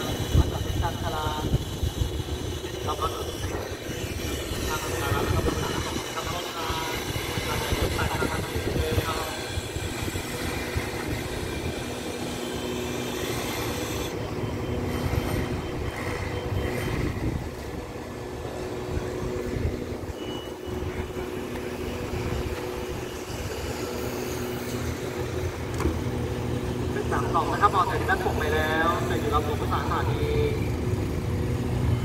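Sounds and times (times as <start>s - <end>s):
diesel train engine humming: 0.0s - 32.0s.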